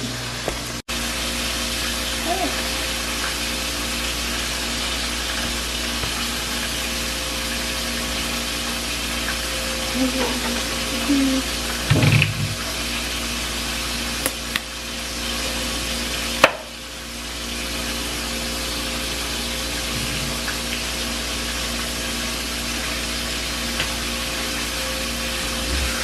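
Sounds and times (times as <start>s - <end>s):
food frying in hot oil: 0.0s - 26.0s
low steady hum: 0.0s - 26.0s.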